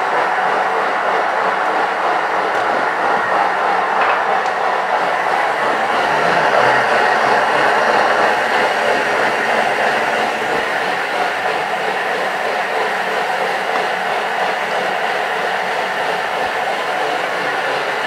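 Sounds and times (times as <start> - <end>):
food processor blending: 0.0 - 18.0.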